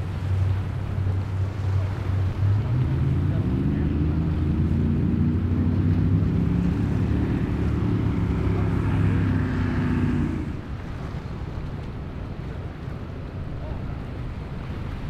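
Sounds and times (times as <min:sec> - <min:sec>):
boat engines droning: 0:00.0 - 0:15.0
water rushing along hull: 0:00.0 - 0:15.0
wind: 0:00.0 - 0:15.0.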